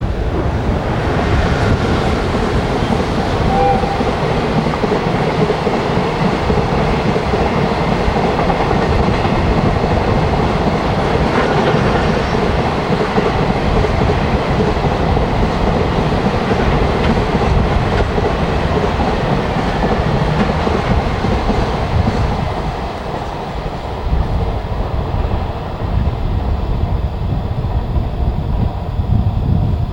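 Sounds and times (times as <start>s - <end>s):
freight train wheels rumbling: 0.0s - 29.9s.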